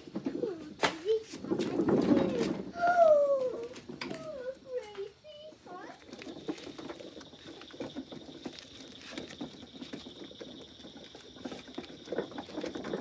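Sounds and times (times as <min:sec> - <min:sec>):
wagon wheels crunching on gravel: 0:01.2 - 0:13.0.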